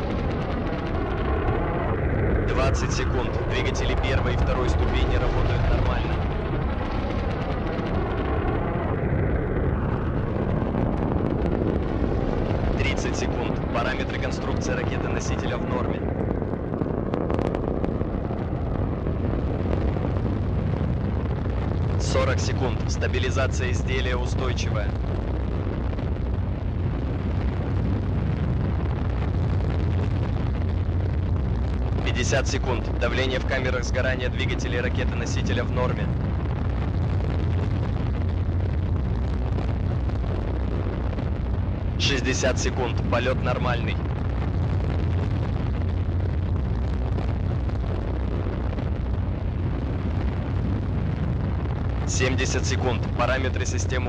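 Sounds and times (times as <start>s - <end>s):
rocket engines rumbling: 0.0s - 54.0s.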